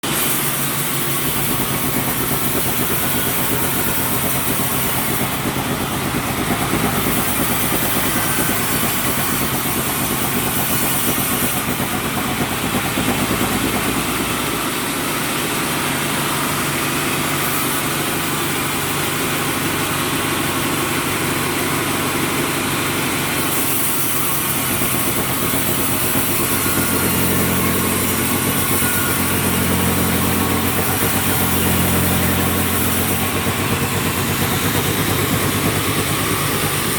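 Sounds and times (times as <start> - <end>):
sawmill engine and saw running: 0.0 - 36.9.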